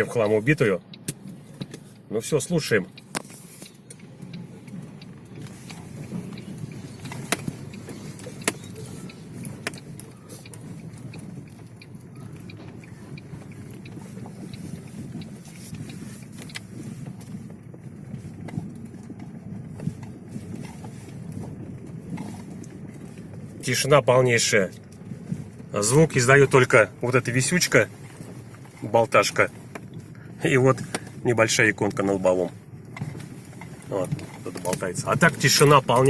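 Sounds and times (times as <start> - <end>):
tyre and road rumble: 0.0 - 36.0.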